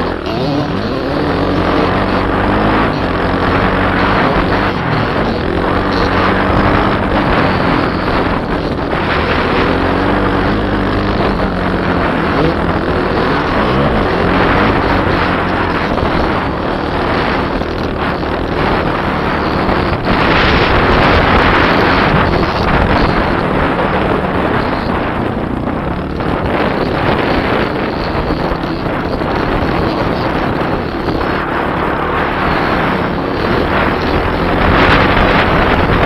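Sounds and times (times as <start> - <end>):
dirt bike engine revving: 0.0 - 36.0
wind noise on microphone: 0.0 - 36.0.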